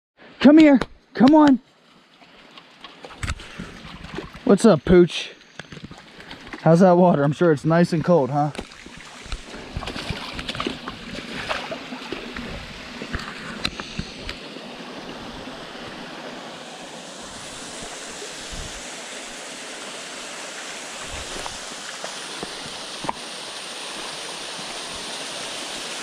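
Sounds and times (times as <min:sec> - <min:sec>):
creek water rushing: 0:01.2 - 0:26.0.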